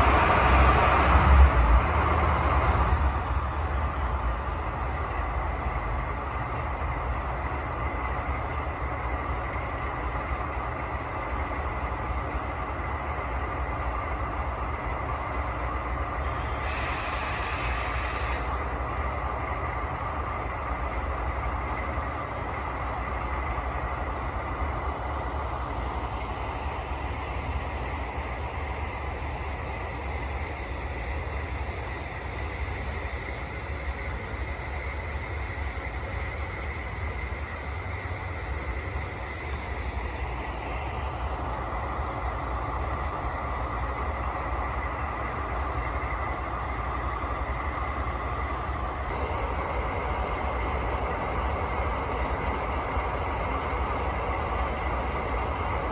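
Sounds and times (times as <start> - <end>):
diesel locomotive engine rumble: 0.0 - 55.9.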